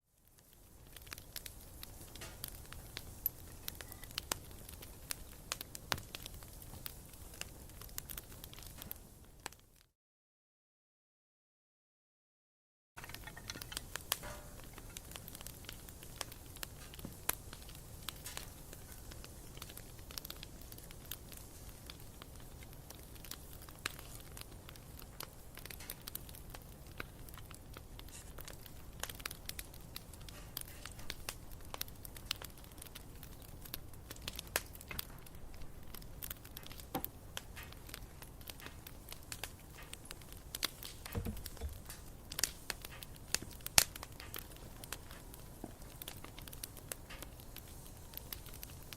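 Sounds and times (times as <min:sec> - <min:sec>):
campfire crackling: 0:00.1 - 0:09.9, 0:13.0 - 0:48.9.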